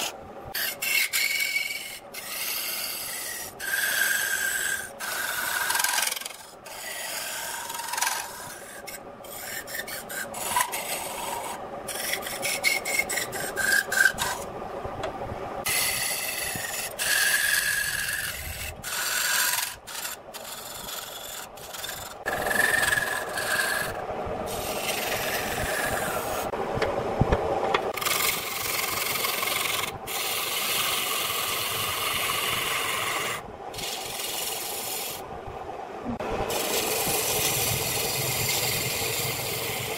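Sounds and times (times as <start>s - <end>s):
wood lathe gouge cutting wood: 0.0s - 14.4s, 15.7s - 26.5s, 28.0s - 35.2s, 36.5s - 39.9s.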